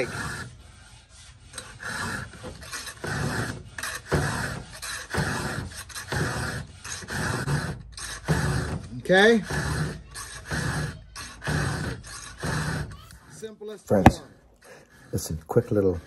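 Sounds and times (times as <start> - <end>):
file rasping on chainsaw chain: 0.0 - 12.9.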